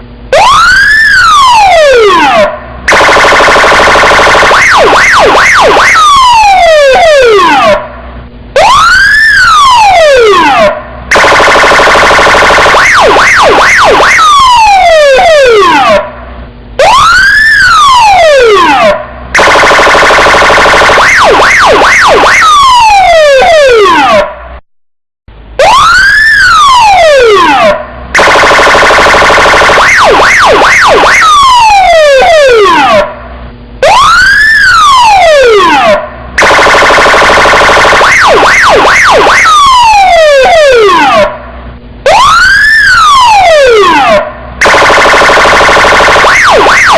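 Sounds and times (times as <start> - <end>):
police car siren: 0.0 - 24.6, 25.5 - 46.9.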